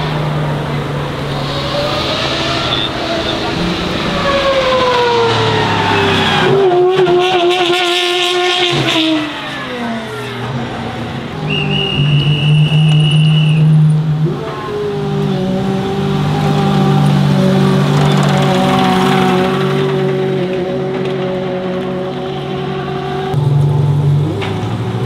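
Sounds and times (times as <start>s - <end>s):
car engine revving hard: 0.0s - 23.4s.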